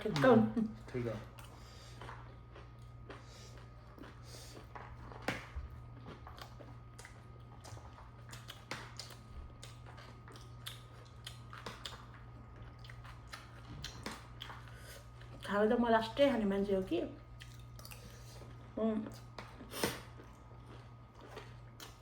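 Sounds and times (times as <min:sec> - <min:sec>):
low steady hum: 0:00.0 - 0:22.0
crunchy food being chewed: 0:00.9 - 0:15.5, 0:17.2 - 0:22.0.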